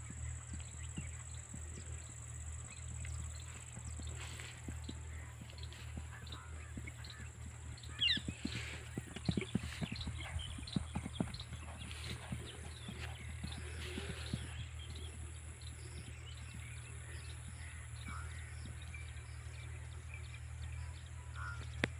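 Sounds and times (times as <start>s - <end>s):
horse hoofbeats on soft soil: 0.0s - 21.9s
steady low hum: 0.0s - 21.9s.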